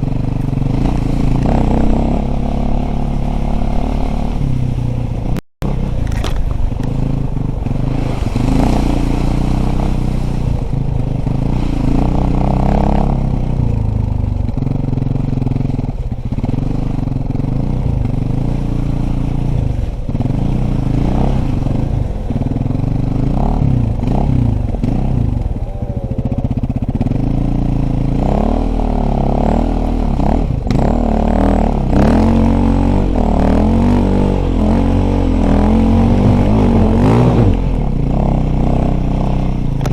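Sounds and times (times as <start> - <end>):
bike rattling over rough ground: 0.0 - 39.9
dirt bike engine revving: 0.0 - 39.9.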